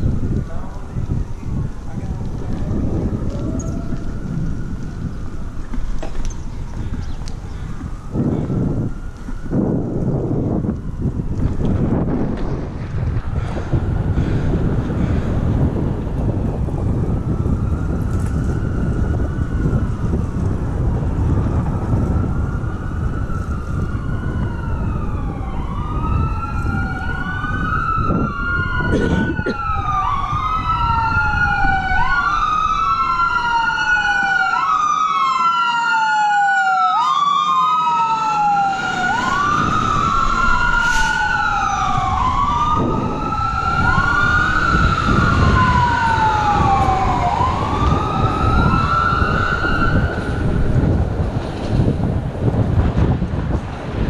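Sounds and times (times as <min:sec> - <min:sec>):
wind rumble on microphone: 0:00.0 - 0:36.7, 0:37.3 - 0:54.0
fire truck siren wailing: 0:00.0 - 0:54.0.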